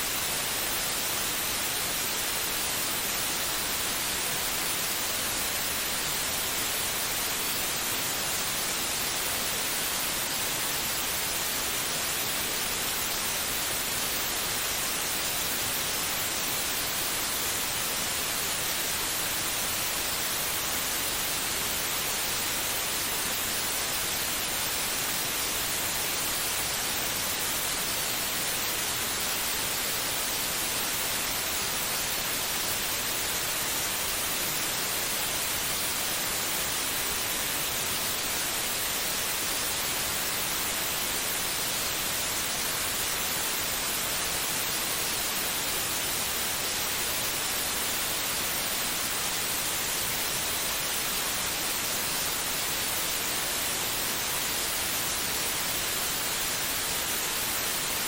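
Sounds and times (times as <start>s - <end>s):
steady white noise hiss: 0.0s - 58.0s.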